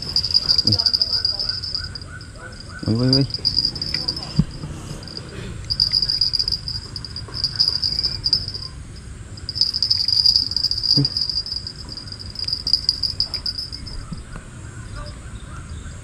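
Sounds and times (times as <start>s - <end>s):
insects trilling: 0.0s - 15.5s.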